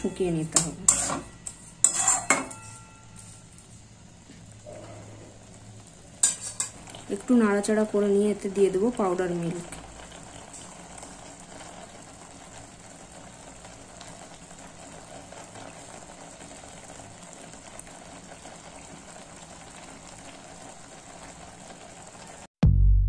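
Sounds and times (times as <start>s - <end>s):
mixture bubbling in a pan: 0.0s - 22.5s.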